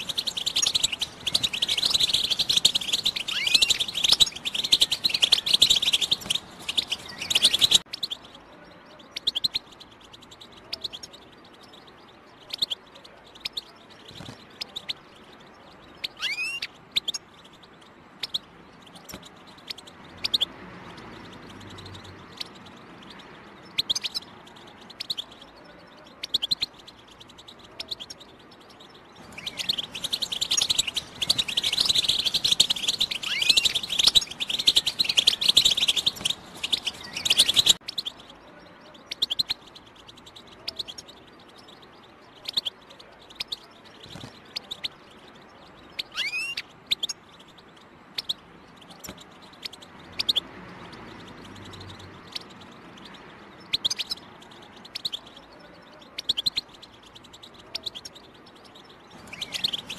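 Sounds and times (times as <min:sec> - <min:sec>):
bird chirps and calls: 0:00.0 - 0:59.9
bird twittering song: 0:00.0 - 0:59.9.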